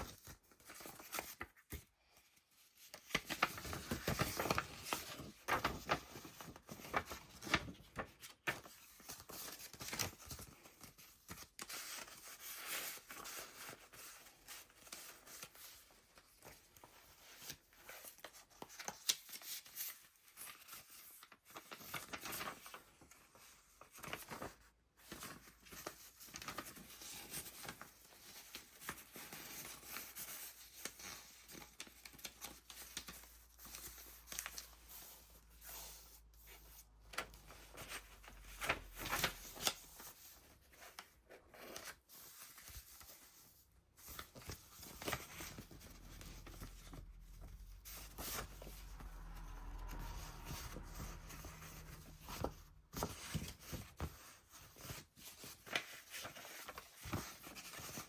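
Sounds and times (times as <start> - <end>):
paper pages rustling: 0.0 - 58.0.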